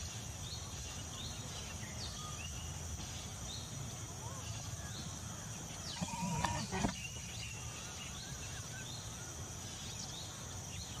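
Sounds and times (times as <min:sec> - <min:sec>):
birds chirping: 0:00.0 - 0:11.0
high insect drone: 0:00.0 - 0:11.0.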